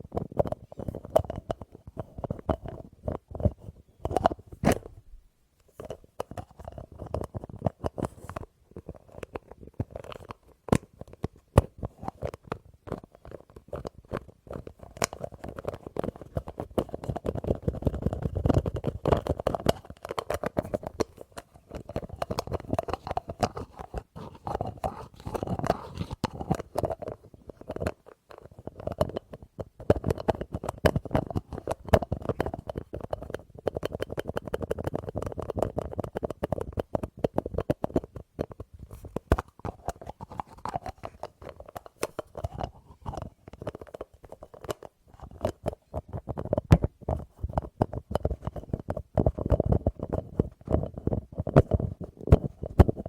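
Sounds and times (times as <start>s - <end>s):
rapid tapping on small object: 5.7s - 53.0s.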